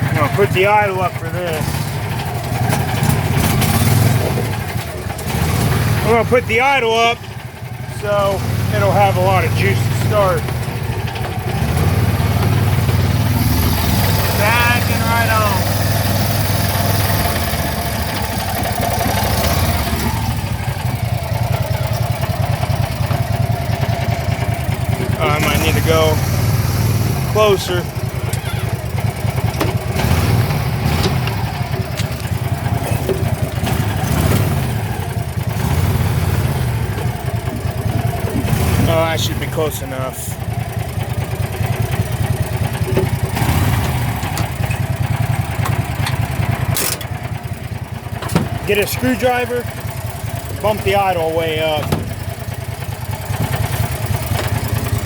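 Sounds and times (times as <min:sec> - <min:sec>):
small gasoline engine idling: 0:00.0 - 0:55.0.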